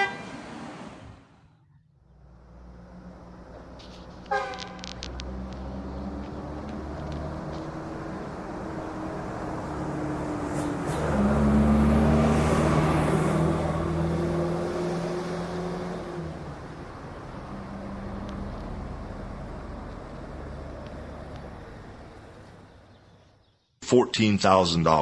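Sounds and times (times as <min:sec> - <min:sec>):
vehicle engine humming: 0:00.0 - 0:23.4.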